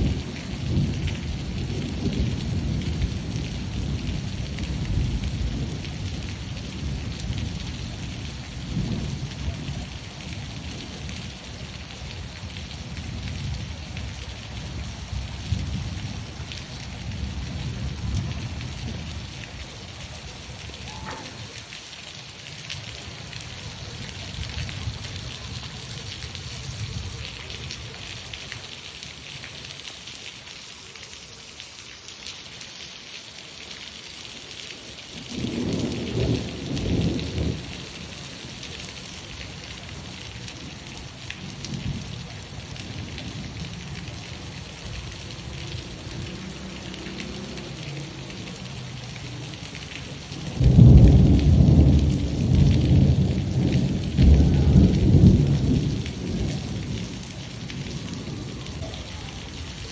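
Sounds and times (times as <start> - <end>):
thunder rumbling: 0.0 - 21.8, 22.6 - 28.7, 35.2 - 48.4, 50.1 - 59.9
steady rain falling: 0.0 - 59.9.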